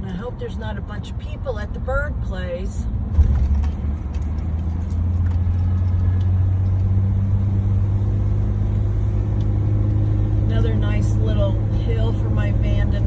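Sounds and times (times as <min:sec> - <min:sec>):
van engine and road noise: 0:00.0 - 0:13.0.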